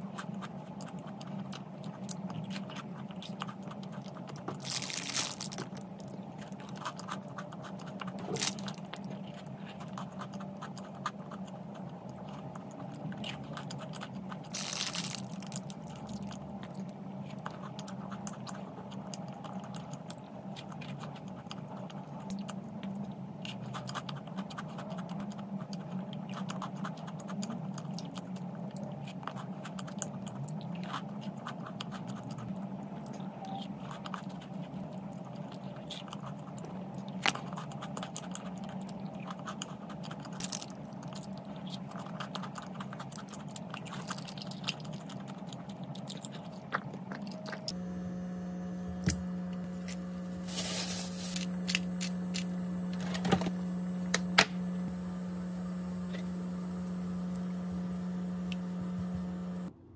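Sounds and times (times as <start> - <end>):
person chewing and crunching food: 0.0 - 59.8
steady low hum: 0.0 - 59.9.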